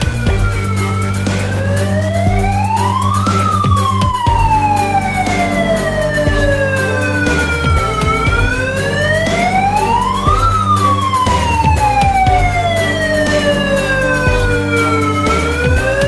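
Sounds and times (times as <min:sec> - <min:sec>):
electronic wailing siren: 0:00.0 - 0:16.0.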